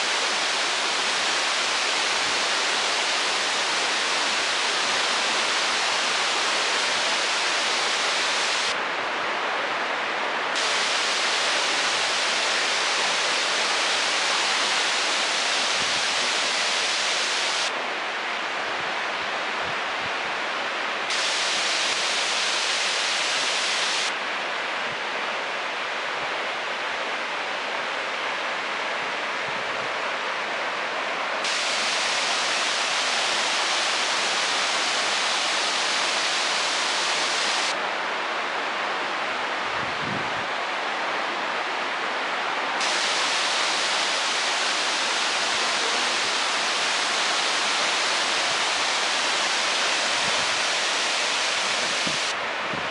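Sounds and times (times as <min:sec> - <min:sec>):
waterfall rushing: 0:00.0 - 0:08.9, 0:10.4 - 0:18.5, 0:20.6 - 0:24.8, 0:29.9 - 0:52.9.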